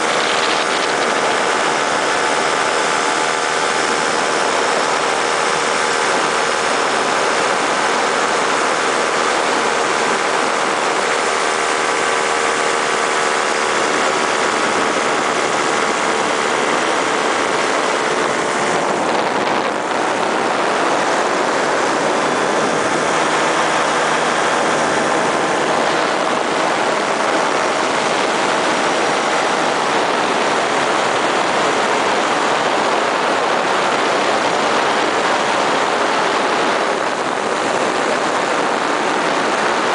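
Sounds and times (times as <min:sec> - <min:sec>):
paramotor engine and propeller: 0:00.0 - 0:39.9
rushing wind: 0:00.0 - 0:39.9.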